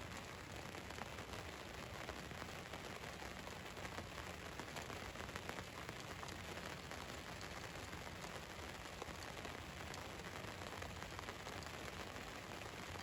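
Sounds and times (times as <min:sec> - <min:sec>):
rain on a van roof: 0:00.0 - 0:13.0.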